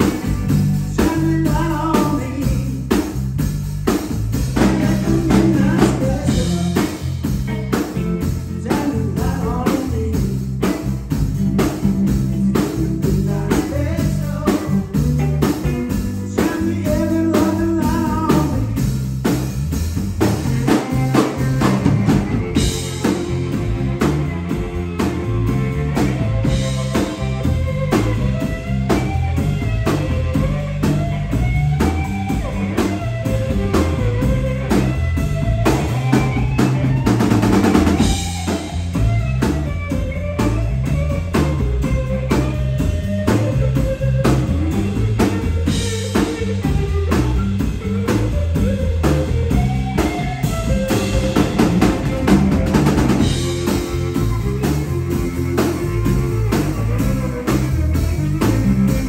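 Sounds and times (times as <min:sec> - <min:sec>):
drum kit: 0:00.0 - 0:59.0
electric bass: 0:00.0 - 0:59.0
electric guitar lead: 0:00.0 - 0:59.0.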